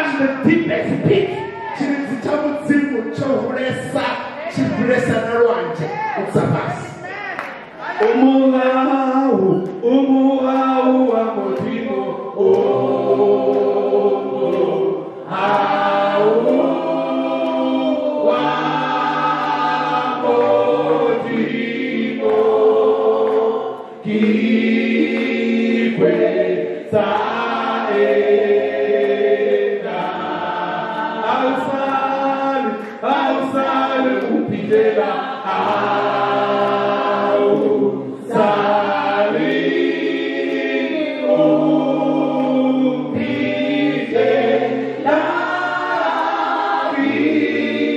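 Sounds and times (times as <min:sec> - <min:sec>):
choir singing in harmony: 0:07.8 - 0:47.9.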